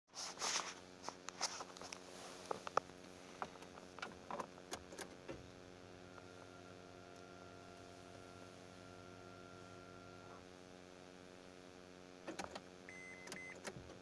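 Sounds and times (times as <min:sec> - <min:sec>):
faint steady hum: 0:00.2 - 0:14.0.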